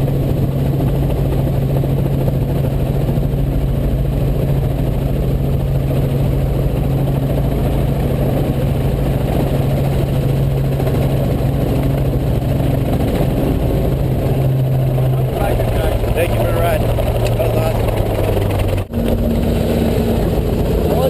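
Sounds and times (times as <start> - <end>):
constant low hum: 0.0 - 21.0
helicopter engine and rotors drone: 0.0 - 21.0.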